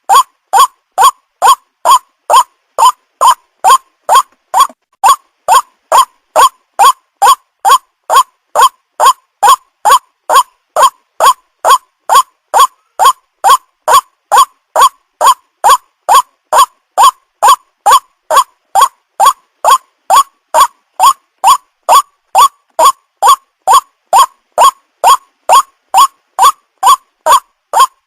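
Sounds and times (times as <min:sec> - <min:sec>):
waterhen calling: 0:00.0 - 0:28.0.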